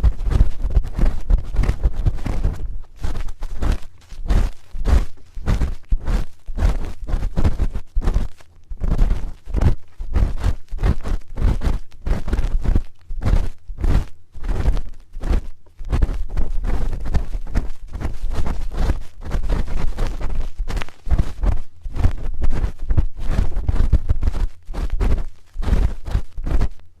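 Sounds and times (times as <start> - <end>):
spoon scraping a microphone: 0.0 - 26.8.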